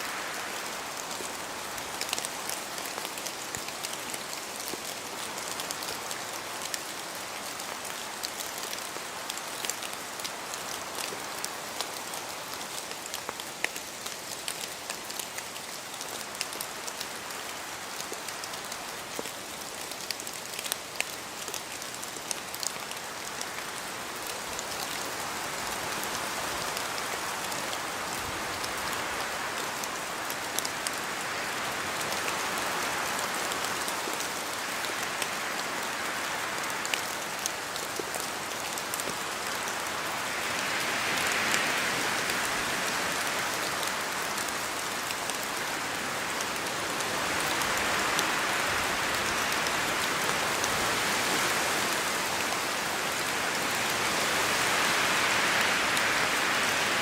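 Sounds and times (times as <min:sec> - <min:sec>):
raindrops pattering close by: 0:00.0 - 0:57.0
steady rain in forest: 0:00.0 - 0:57.0.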